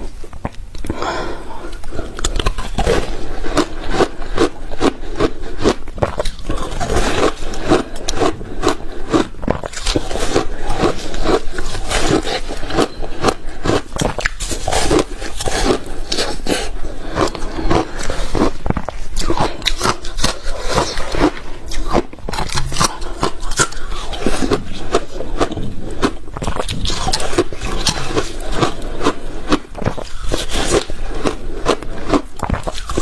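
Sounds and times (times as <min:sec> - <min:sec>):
ice crunching while chewed: 0:00.0 - 0:33.0.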